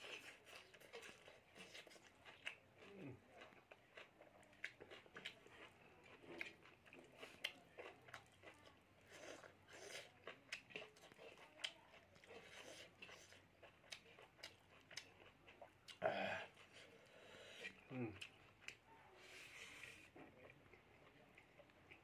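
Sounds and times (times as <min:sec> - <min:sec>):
chewing with wet mouth clicks: 0:00.0 - 0:22.0.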